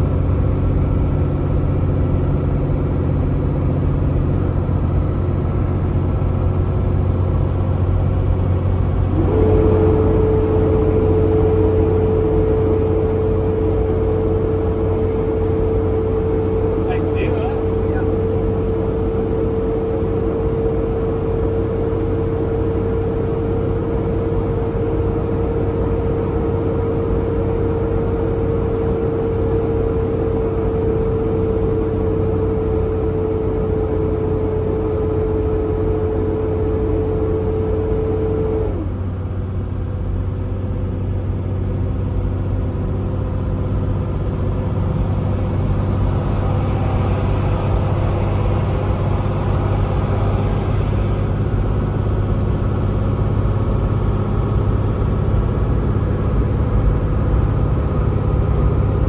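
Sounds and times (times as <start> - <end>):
truck engine drone: 0.0 - 59.0.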